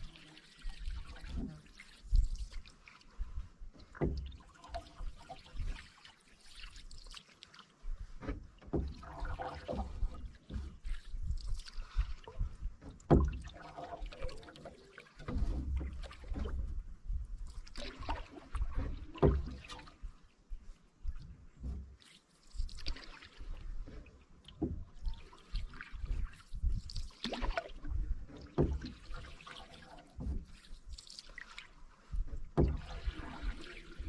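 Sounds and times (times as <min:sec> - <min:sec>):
paddle splashing water: 0:00.0 - 0:34.0.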